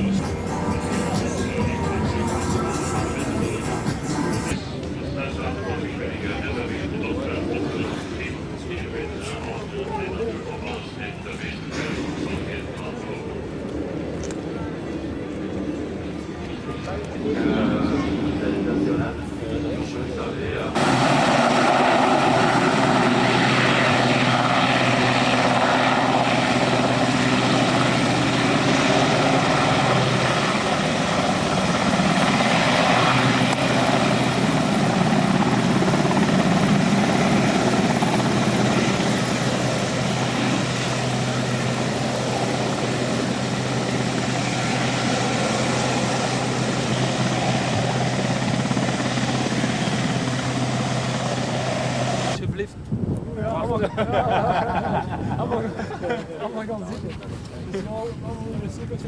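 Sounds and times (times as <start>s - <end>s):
aircraft engine running: 0.0s - 52.4s.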